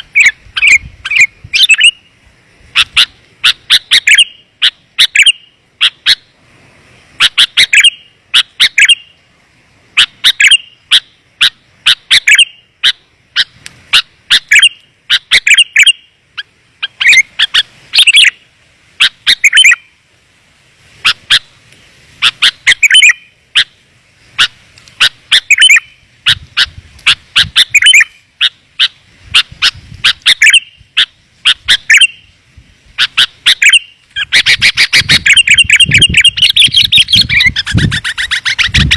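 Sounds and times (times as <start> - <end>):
bird chirping: 0.0 - 6.4, 7.2 - 9.2, 10.0 - 20.0, 22.2 - 23.8, 24.4 - 32.4, 33.0 - 38.9.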